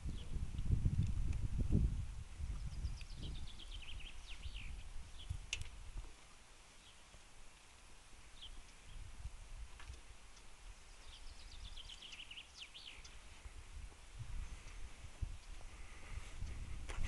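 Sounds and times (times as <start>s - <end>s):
small birds chirping: 0.0s - 0.4s, 2.4s - 16.8s
low rumble on microphone: 0.0s - 6.2s, 8.3s - 17.0s.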